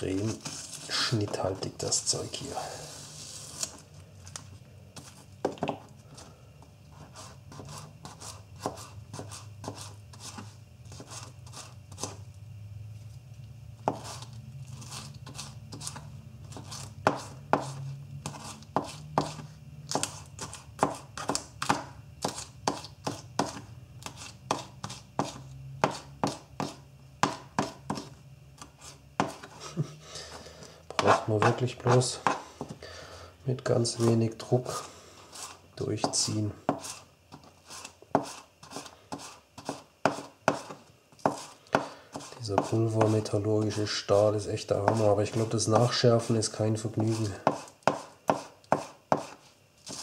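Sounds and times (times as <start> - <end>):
faint low hum: 0.0 - 48.4.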